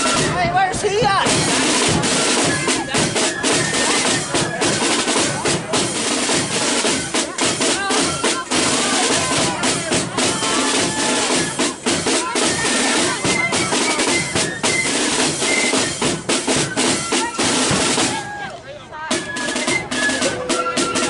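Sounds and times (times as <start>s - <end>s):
bass drum: 0.0s - 18.3s
rattling snare drums: 0.0s - 18.4s, 19.1s - 21.0s
flutes playing melody: 0.0s - 21.0s.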